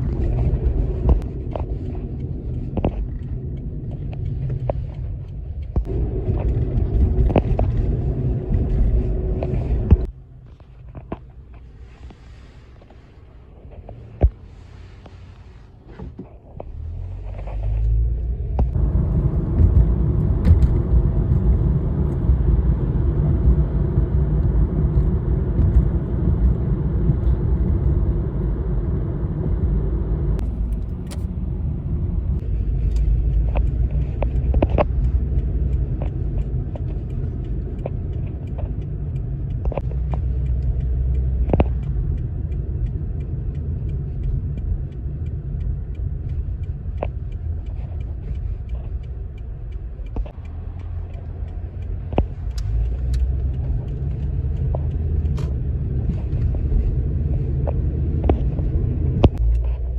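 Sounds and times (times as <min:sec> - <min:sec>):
vehicle engine rumbling: 0:00.0 - 0:59.9.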